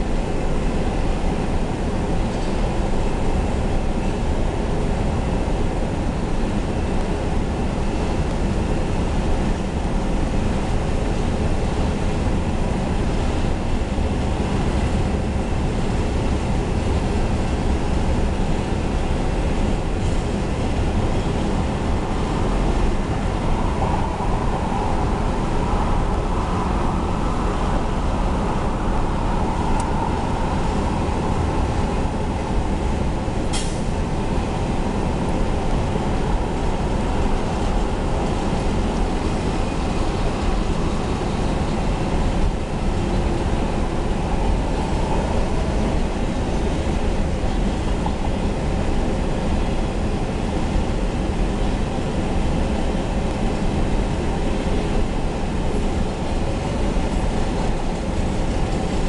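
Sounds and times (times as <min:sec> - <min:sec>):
rumble of steel wheels on rail: 0:00.0 - 0:59.0.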